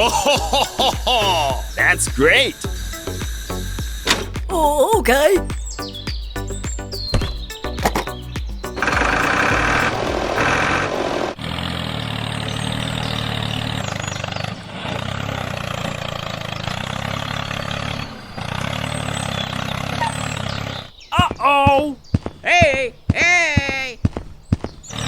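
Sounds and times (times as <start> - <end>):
vehicle engine running: 0.0 - 4.8, 5.6 - 21.0.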